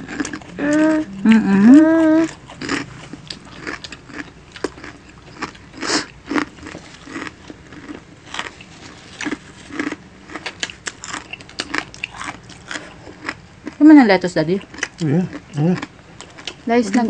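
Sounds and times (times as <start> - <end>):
chewing and biting: 0.0 - 13.9, 14.6 - 17.0.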